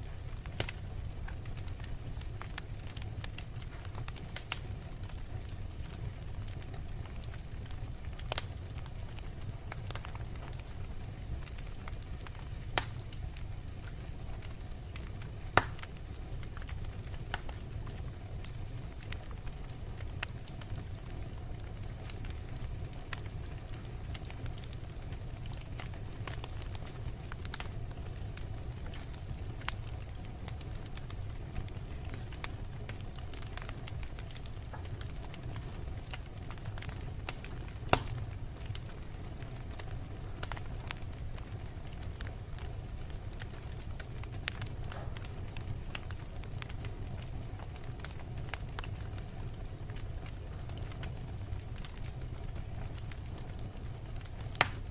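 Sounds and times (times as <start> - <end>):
wood logs burning crackling: 0.0 - 54.9.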